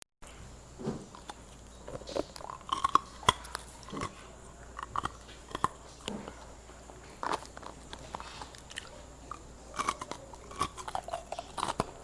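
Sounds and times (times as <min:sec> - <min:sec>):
ice being bitten and chewed: 0:01.1 - 0:06.2, 0:07.0 - 0:12.0.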